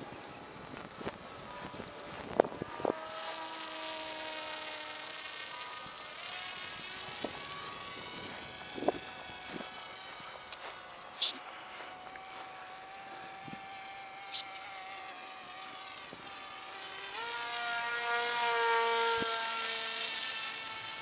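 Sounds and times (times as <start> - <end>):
model plane motor whining: 0.0 - 21.0.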